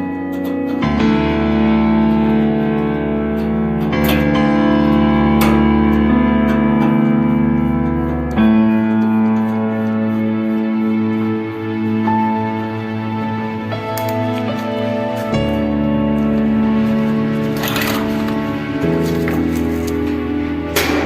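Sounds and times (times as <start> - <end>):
guitar and keyboard chords: 0.0 - 21.0.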